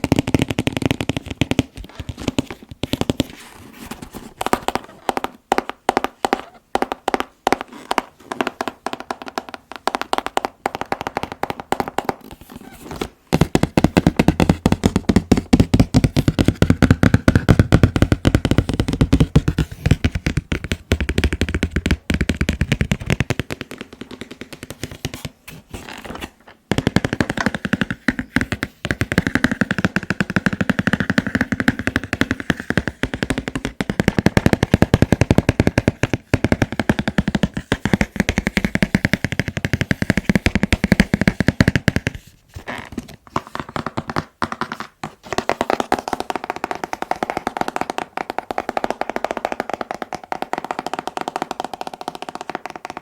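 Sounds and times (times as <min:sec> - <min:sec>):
fingertips tapping on a box: 0:00.0 - 0:03.4, 0:04.2 - 0:25.4, 0:26.7 - 0:42.3, 0:43.0 - 0:53.0.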